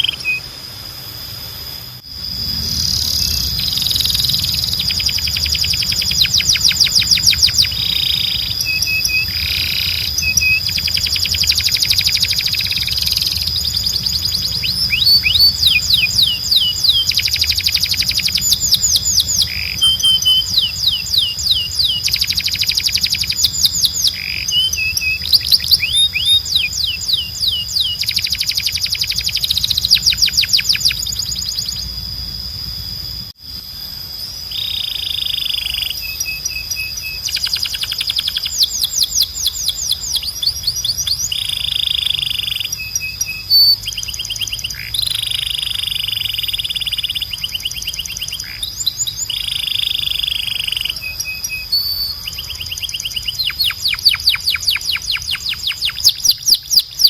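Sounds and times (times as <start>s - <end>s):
canary singing trills: 0.0s - 33.3s, 33.9s - 57.0s
steady high whistle: 0.0s - 57.0s.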